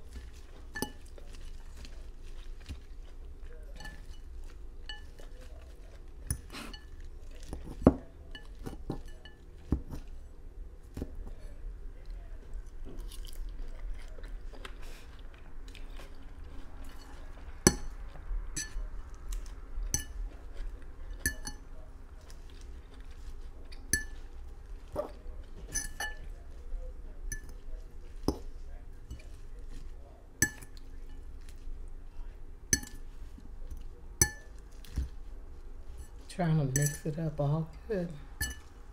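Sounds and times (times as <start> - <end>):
chewing: 0.0 - 36.3.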